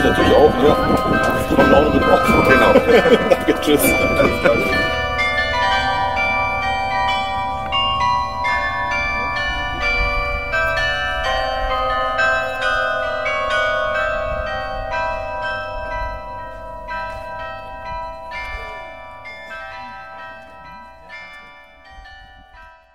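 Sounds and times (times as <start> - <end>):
carillon bells playing tune: 0.0 - 22.9.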